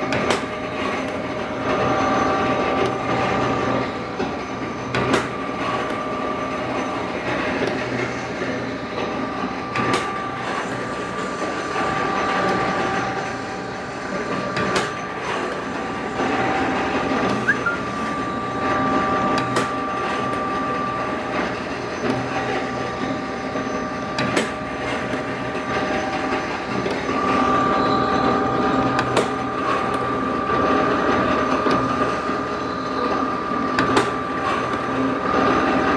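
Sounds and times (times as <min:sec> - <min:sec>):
high machine whine: 0:00.0 - 0:35.9
lathe running: 0:00.0 - 0:35.9.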